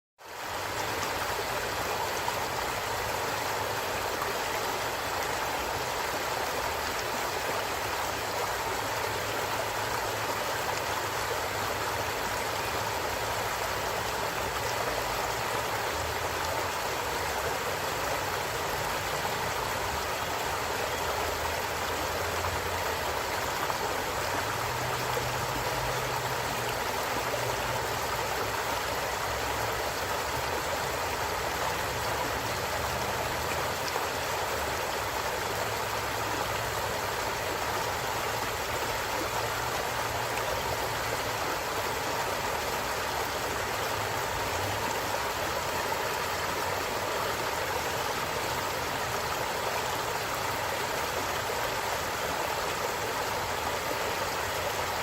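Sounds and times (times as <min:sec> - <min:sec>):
stream flowing over stones: 0:00.2 - 0:55.0.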